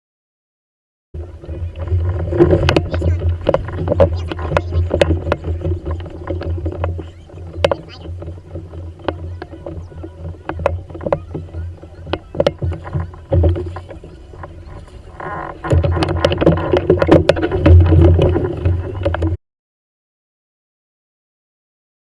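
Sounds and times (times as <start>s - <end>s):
knocks and clicks against kayak hull: 1.2s - 19.4s.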